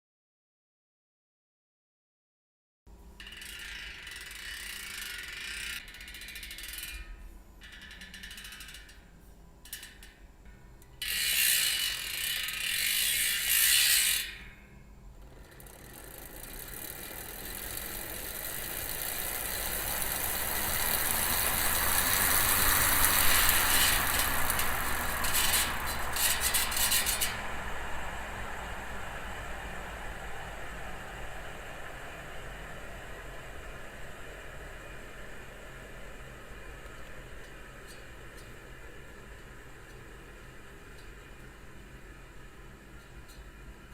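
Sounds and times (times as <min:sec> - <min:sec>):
bicycle hub freewheeling buzz: 0:03.1 - 0:43.8.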